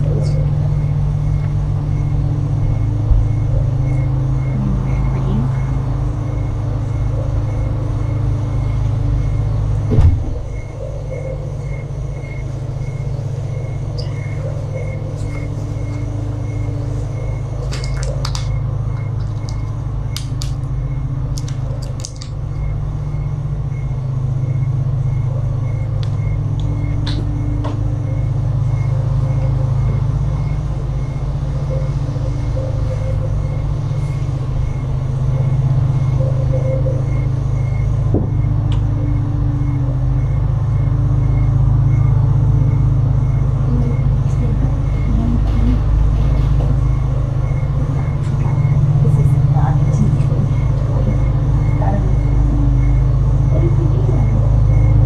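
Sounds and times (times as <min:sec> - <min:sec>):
fan humming: 0:00.0 - 0:55.0.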